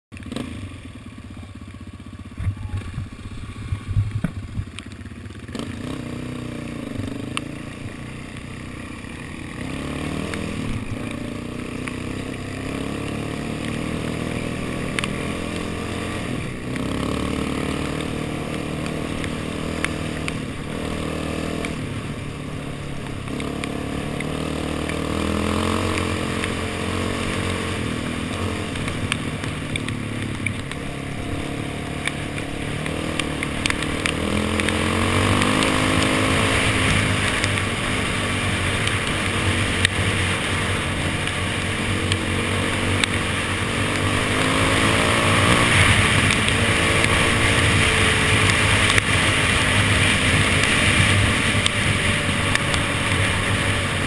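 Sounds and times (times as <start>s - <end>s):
quad engine accelerating: 0.1s - 54.0s
knocks and rattles over rough ground: 2.3s - 54.0s.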